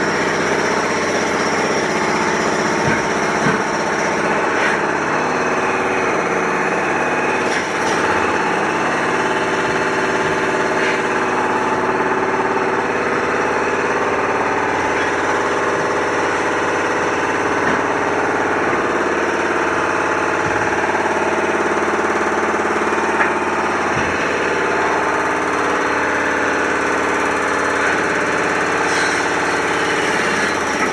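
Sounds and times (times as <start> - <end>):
machine engine running: 0.0 - 30.9.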